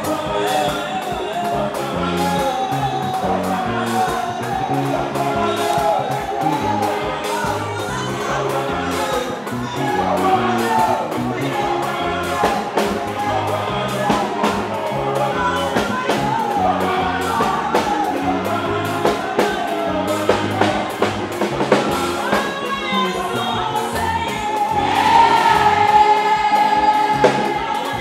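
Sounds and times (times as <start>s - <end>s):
gospel band playing: 0.0s - 28.0s
person singing: 0.0s - 28.0s.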